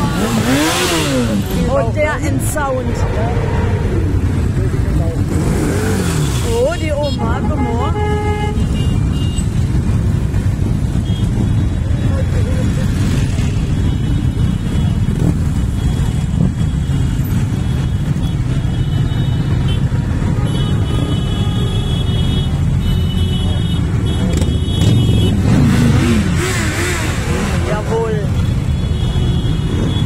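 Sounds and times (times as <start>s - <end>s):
motorcycle engines rumbling past: 0.0s - 21.4s, 22.5s - 30.0s
motorcycle revving: 0.0s - 30.0s.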